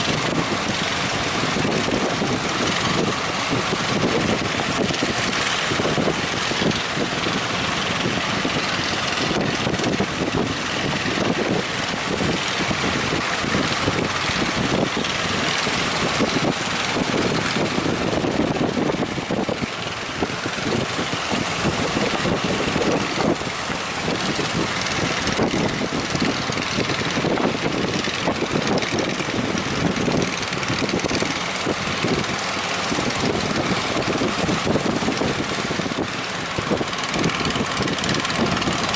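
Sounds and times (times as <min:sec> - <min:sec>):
boat engine running: 0:00.0 - 0:38.9
wind on microphone: 0:00.0 - 0:38.9.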